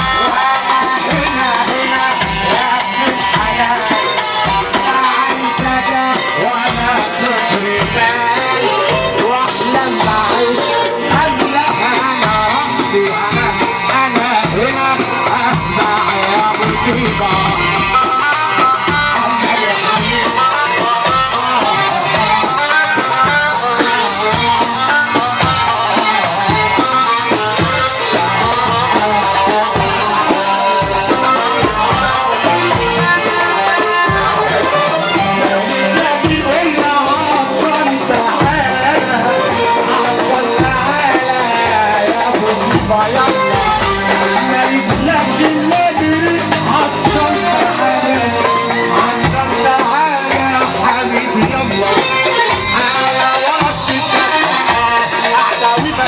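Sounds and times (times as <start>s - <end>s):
hand percussion with jingles: 0.0s - 56.0s
winding melody line: 0.0s - 56.0s.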